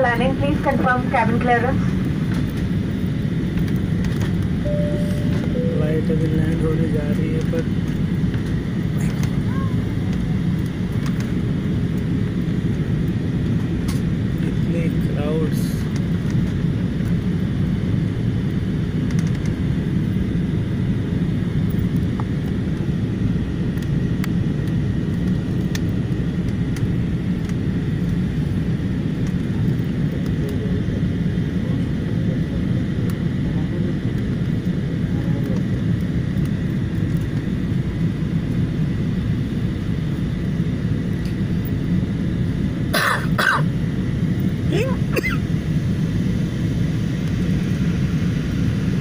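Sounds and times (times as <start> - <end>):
engines and rushing air rumble: 0.0 - 49.0
faint steady whine: 0.0 - 49.0.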